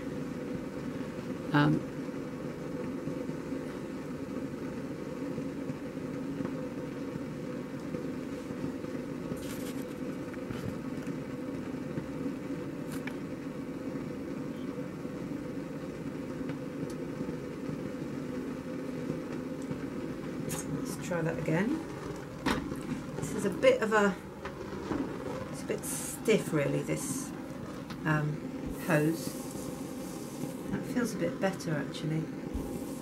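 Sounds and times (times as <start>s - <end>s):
gas burner rushing: 0.0s - 33.0s.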